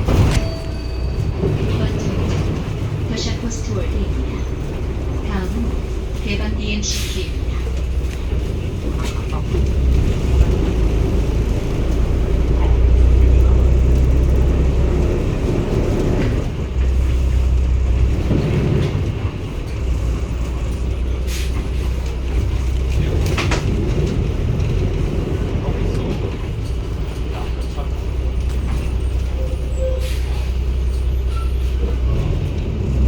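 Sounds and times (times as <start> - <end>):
bus diesel engine drone: 0.0 - 33.0.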